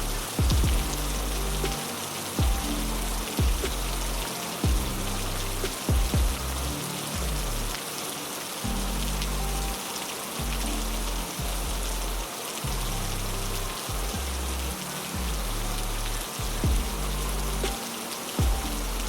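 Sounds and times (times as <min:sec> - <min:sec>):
heavy rain: 0:00.0 - 0:19.0
low sustained notes: 0:00.0 - 0:19.0.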